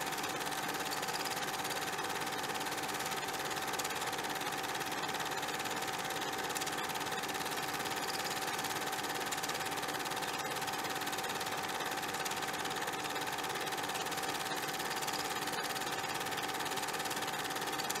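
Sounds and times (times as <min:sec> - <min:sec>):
machine running with clatter: 0:00.0 - 0:18.0.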